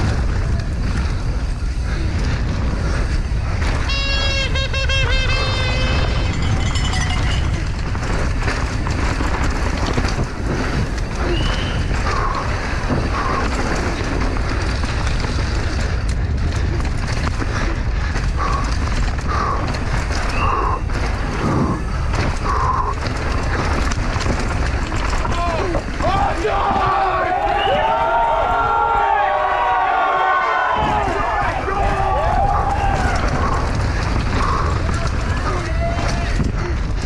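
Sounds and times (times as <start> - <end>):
bike chain and frame rattling: 0.0 - 37.0
tyres scrabbling over dirt: 0.0 - 37.0
wind rush on microphone: 0.0 - 37.0.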